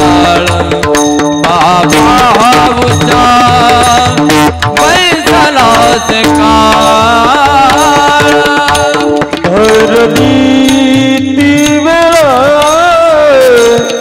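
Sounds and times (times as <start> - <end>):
person singing devotional melody: 0.0 - 14.0.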